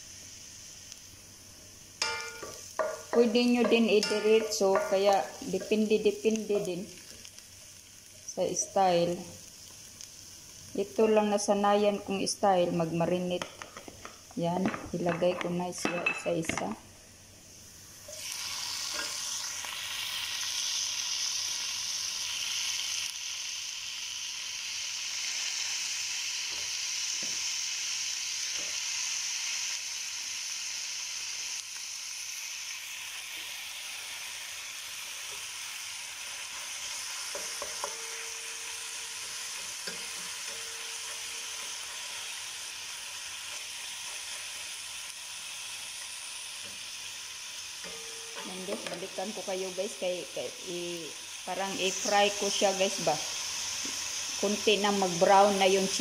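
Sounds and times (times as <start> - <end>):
chicken sizzling in hot oil: 0.0 - 14.6, 15.2 - 56.0.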